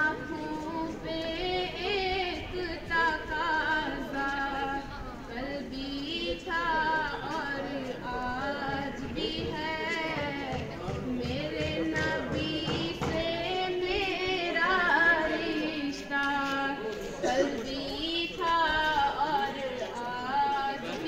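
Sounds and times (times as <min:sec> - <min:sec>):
girl singing devotional song: 0:00.0 - 0:21.0.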